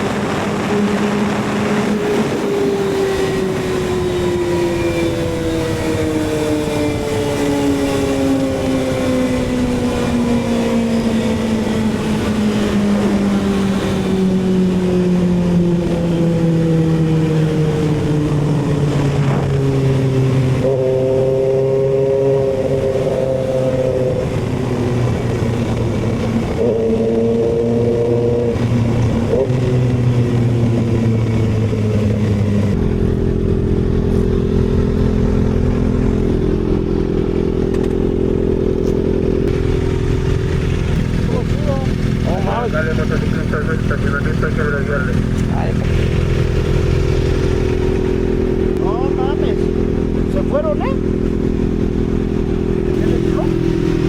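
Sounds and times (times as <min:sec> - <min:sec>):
motorcycle engine revs: 0:07.2 - 0:54.0.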